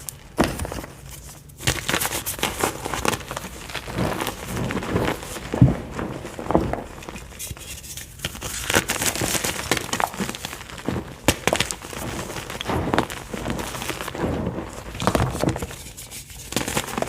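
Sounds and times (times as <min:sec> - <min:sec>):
chalk crunching: 0:01.0 - 0:17.0.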